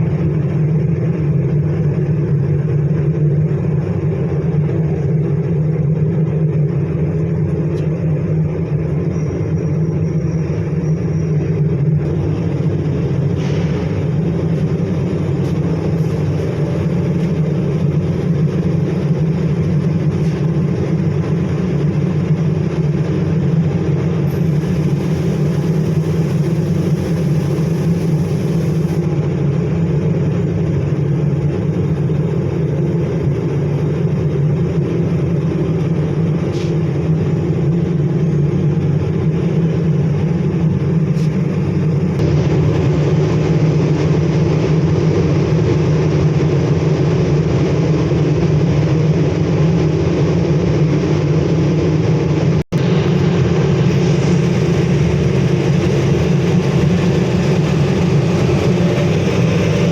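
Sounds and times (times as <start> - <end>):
foundry machinery roar: 0.0 - 59.9.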